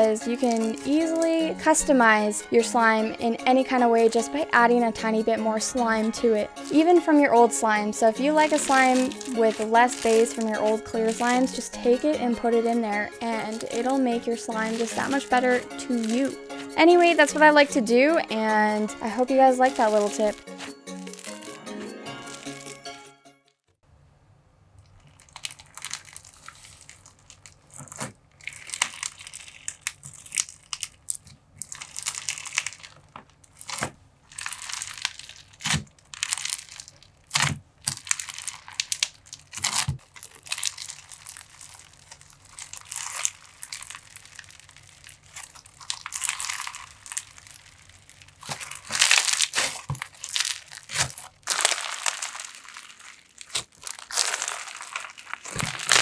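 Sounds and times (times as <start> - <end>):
plastic beads crunching and crackling: 0.0 - 22.9, 25.0 - 56.0.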